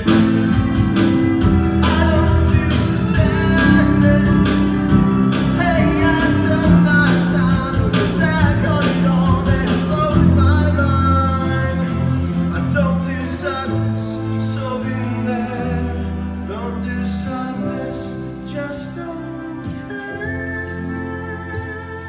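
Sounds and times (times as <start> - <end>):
live rock band playing: 0.0 - 22.0
man singing: 0.0 - 22.0.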